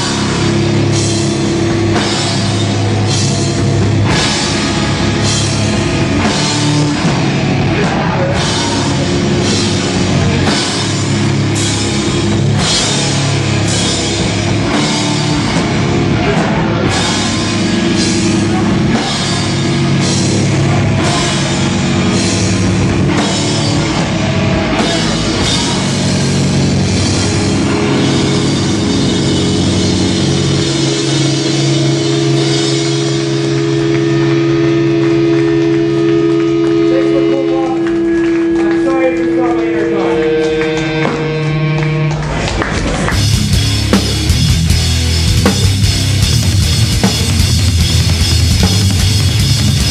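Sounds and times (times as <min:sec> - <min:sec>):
hardcore band playing live: 0:00.0 - 0:49.9.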